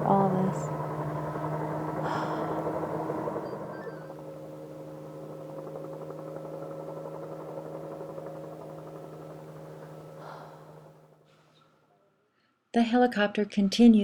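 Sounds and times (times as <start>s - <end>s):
helicopter rotor fluttering: 0.0s - 11.5s.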